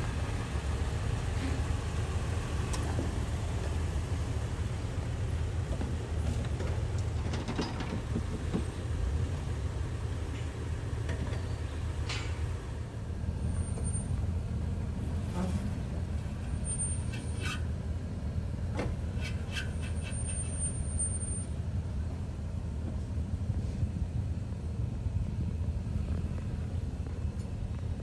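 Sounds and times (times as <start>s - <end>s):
engine low rumble: 0.0s - 28.0s.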